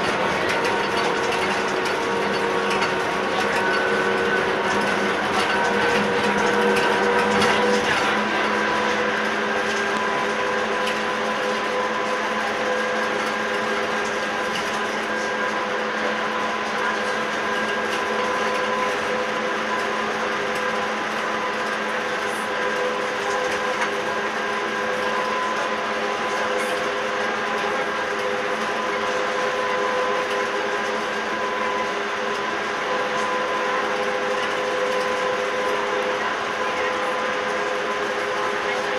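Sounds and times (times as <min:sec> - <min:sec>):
tyre and tunnel noise: 0:00.0 - 0:38.9.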